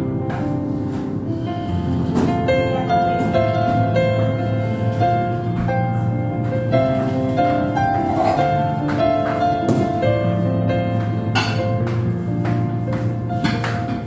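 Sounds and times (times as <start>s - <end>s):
gentle instrumental music: 0.0s - 14.0s.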